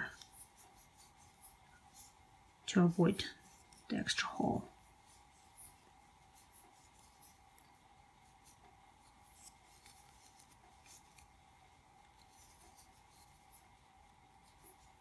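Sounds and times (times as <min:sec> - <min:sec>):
crochet hook rustling yarn: 0:00.0 - 0:15.0
faint steady hum: 0:00.0 - 0:15.0.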